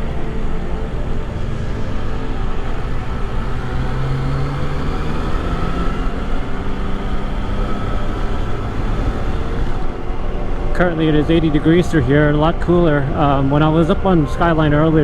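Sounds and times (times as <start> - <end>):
motorcycle engine running: 0.0 - 13.6
wind and road noise: 0.0 - 15.0.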